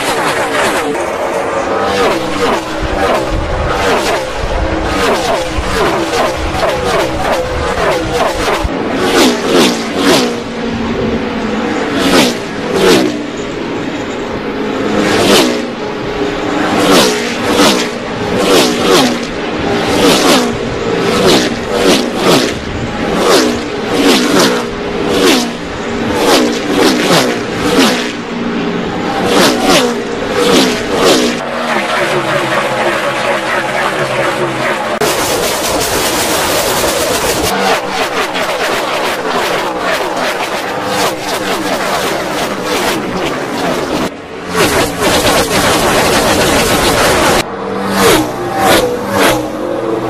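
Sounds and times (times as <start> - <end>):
race cars passing by: 0.0 - 50.0.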